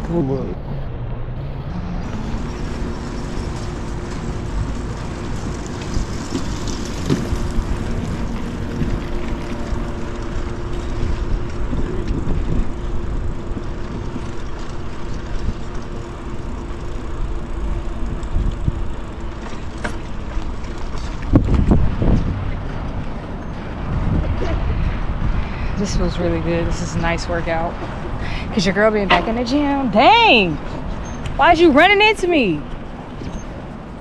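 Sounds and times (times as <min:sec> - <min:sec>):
wind on microphone: 0:00.0 - 0:31.8
bicycle road noise: 0:00.0 - 0:34.0.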